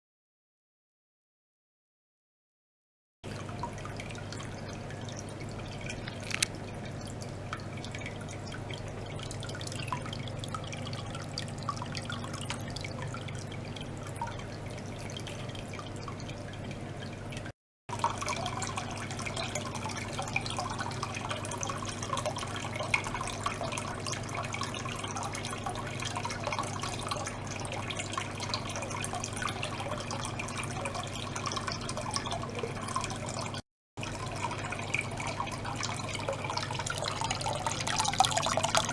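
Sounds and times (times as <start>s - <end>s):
low pump hum: 3.2s - 38.9s
water trickling and dripping: 3.2s - 38.9s.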